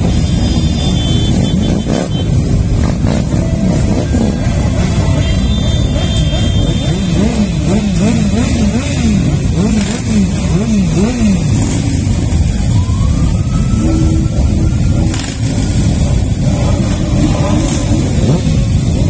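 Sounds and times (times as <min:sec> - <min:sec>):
motorcycle engine revving: 0:00.0 - 0:12.8, 0:13.7 - 0:19.0
motorcycle engines rumbling: 0:00.0 - 0:19.0.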